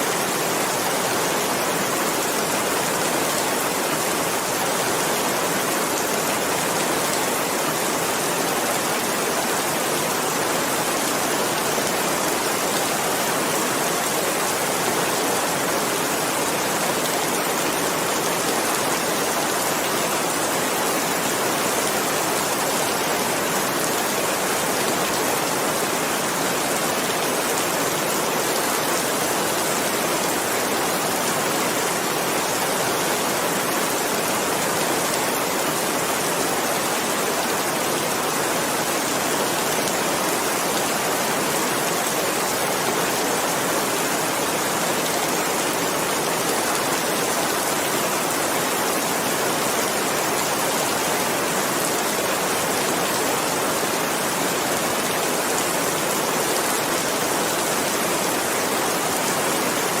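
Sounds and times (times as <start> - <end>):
steady rainfall: 0.0 - 60.0.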